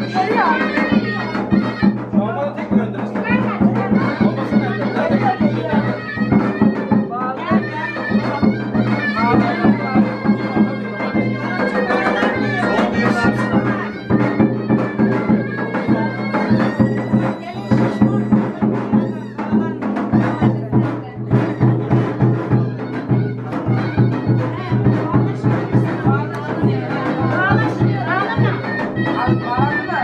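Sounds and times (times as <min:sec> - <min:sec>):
drum beat: 0:00.0 - 0:30.0.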